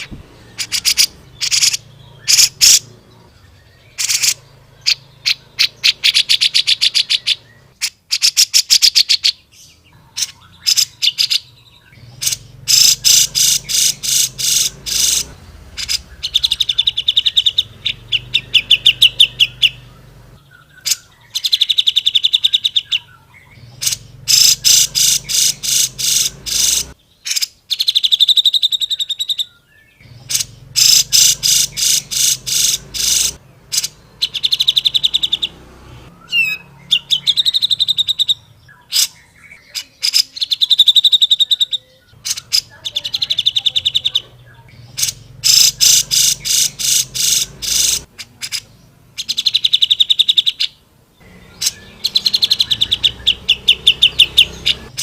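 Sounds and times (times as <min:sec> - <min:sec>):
bird singing fast trills: 0:00.0 - 0:55.0.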